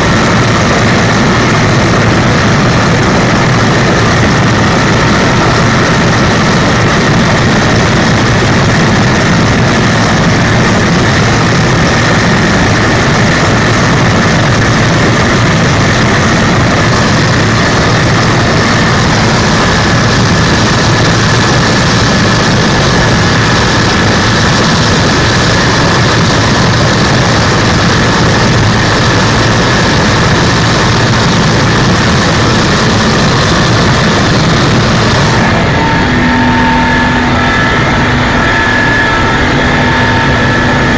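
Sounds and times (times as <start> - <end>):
helicopter engine and rotor noise: 0.0 - 40.9
thin high whine: 0.0 - 40.9.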